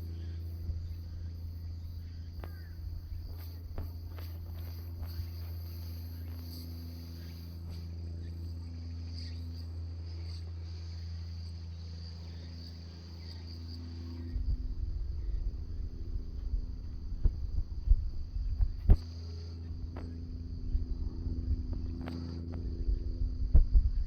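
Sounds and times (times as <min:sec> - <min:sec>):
crickets chirping: 0:00.0 - 0:24.0
low rumble: 0:00.0 - 0:24.0
steady low hum: 0:00.0 - 0:24.0.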